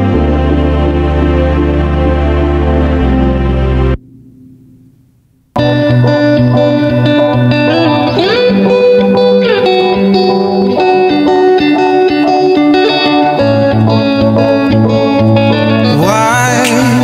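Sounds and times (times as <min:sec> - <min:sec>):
guitar with sliding pitch bends: 0:00.0 - 0:17.0.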